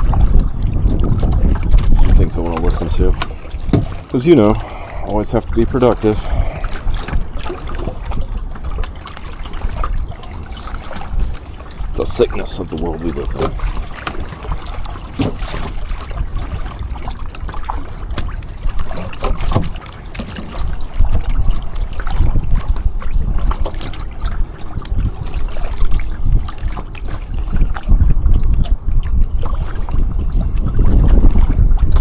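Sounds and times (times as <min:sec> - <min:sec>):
kayak paddle strokes: 0:00.0 - 0:32.0
water trickling and splashing: 0:00.0 - 0:32.0
wind buffeting microphone: 0:00.0 - 0:32.0.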